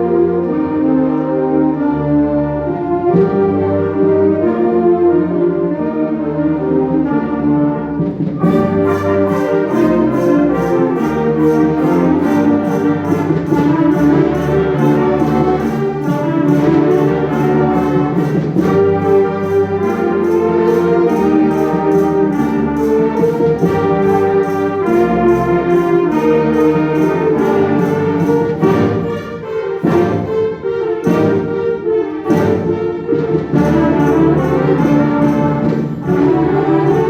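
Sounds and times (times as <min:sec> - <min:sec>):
wind band playing chords: 0:00.0 - 0:37.0.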